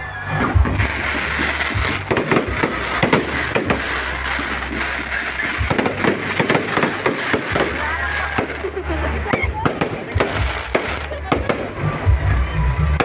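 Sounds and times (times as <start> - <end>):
fireworks bangs and pops: 0.3 - 12.3
firework crackle: 0.4 - 12.3.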